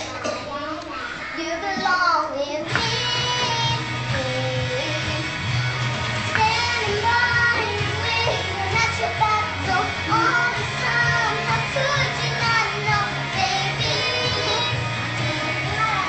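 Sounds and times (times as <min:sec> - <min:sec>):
girl singing: 0:00.6 - 0:05.6, 0:06.3 - 0:16.0
backing music with bass: 0:02.6 - 0:16.0.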